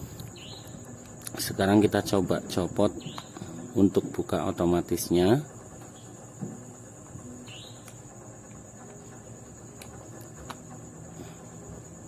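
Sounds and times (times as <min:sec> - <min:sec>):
high-pitched insect chirr: 0:00.0 - 0:06.2, 0:07.2 - 0:12.0.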